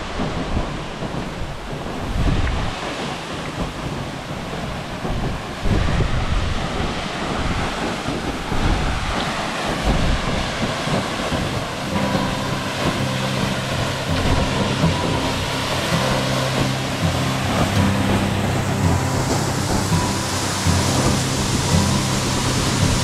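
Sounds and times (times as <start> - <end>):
steady rushing noise: 0.0 - 23.0
wind buffeting microphone: 0.0 - 23.0.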